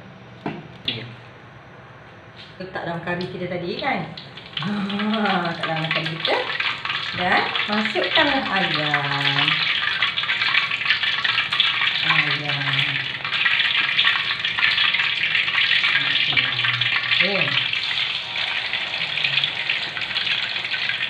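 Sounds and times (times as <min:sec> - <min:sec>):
hot oil sizzling and crackling: 0:03.6 - 0:21.0.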